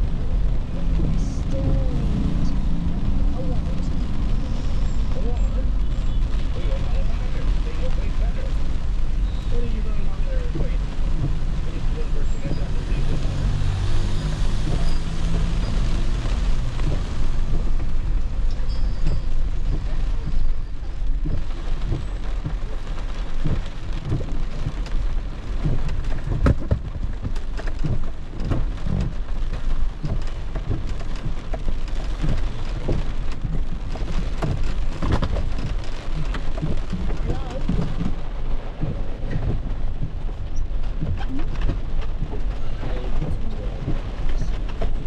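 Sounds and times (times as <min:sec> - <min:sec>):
rain drumming on car roof: 0:00.0 - 0:45.0.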